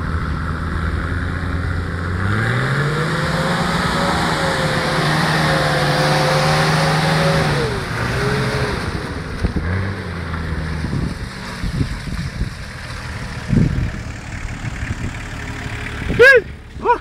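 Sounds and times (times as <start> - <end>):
car engine revving: 0.0 - 17.0
tyres spraying mud: 2.0 - 17.0.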